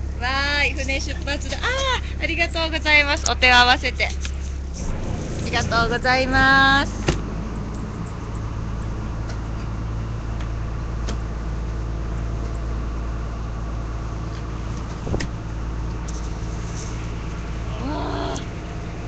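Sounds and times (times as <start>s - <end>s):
boat engine droning: 0.0s - 12.1s, 12.7s - 19.0s.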